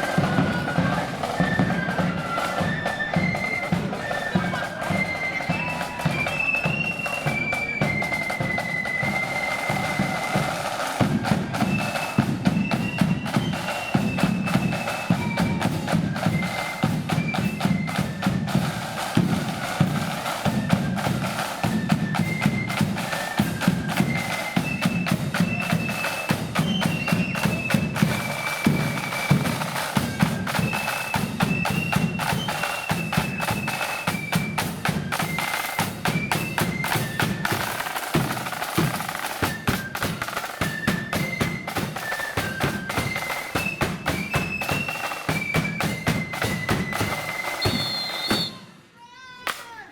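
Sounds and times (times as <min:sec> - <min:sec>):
snare drum rolls: 0:00.0 - 0:48.8
flutes playing melody: 0:00.0 - 0:48.9.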